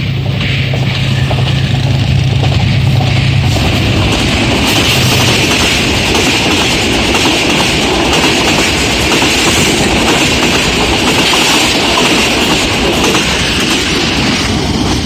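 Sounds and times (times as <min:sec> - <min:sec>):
train wheels rumbling on rails: 0:00.0 - 0:15.0
wheels clicking over rail joints: 0:00.0 - 0:15.0.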